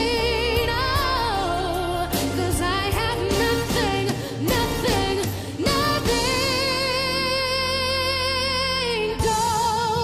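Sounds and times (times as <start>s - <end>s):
ballad backing music: 0.0s - 10.0s
woman singing with vibrato: 0.0s - 10.0s.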